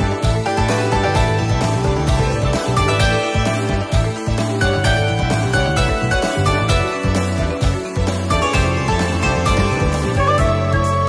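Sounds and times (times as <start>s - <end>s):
instrumental music with bass beat: 0.0s - 11.0s.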